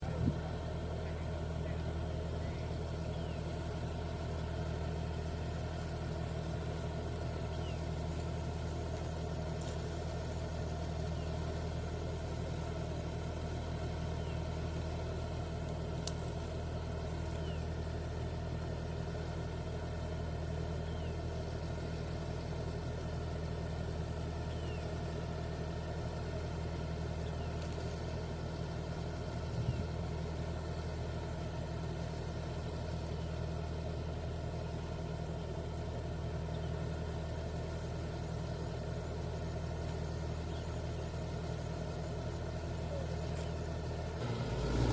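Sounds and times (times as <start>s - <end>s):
heavy machine engine idling: 0.0s - 44.9s.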